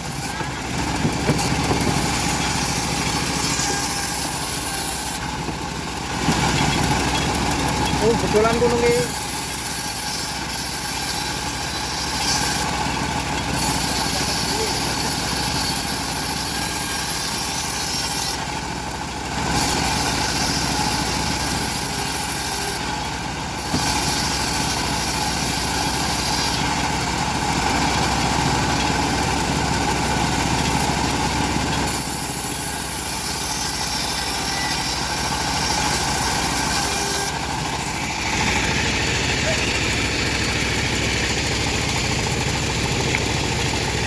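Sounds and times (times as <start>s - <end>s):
bandsaw mill cutting log: 0.0s - 44.0s.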